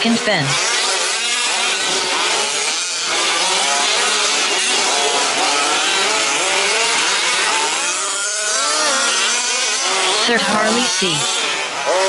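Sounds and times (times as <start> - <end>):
rc truck engines revving: 0.0 - 12.0.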